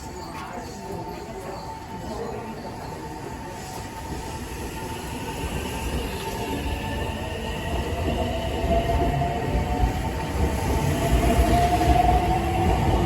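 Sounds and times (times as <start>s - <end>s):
electric train running on rails: 0.0s - 13.0s.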